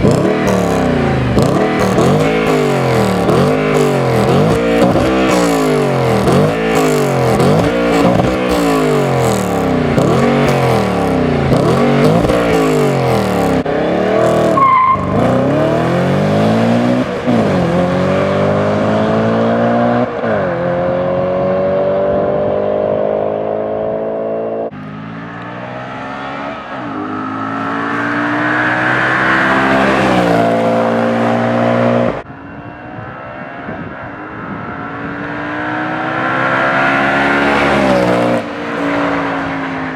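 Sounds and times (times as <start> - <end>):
car engine revving and accelerating: 0.0 - 32.2, 33.6 - 39.9.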